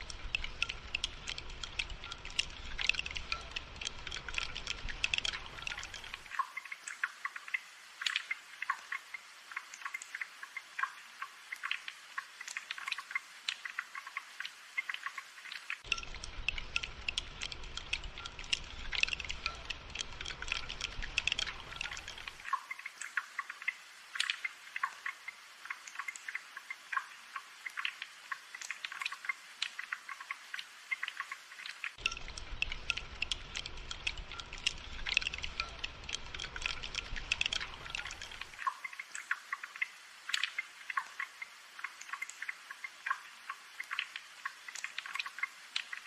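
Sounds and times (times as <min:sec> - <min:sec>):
rain pattering and dripping: 0:00.0 - 0:46.0.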